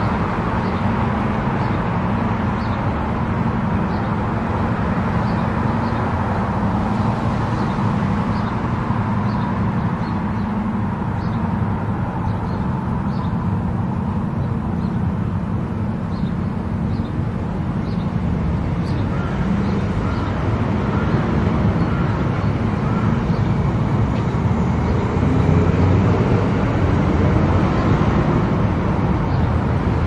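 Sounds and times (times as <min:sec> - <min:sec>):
car tyres and engine rumbling: 0:00.0 - 0:30.0.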